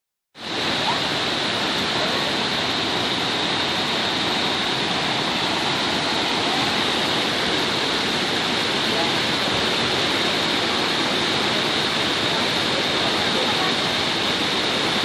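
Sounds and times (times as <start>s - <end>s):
steady rushing noise with hiss: 0.4s - 15.0s.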